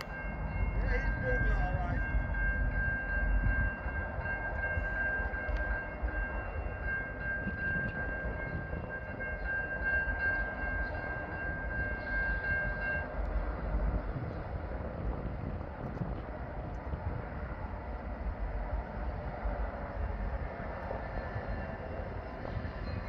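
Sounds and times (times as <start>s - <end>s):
low train rumble: 0.0s - 23.0s.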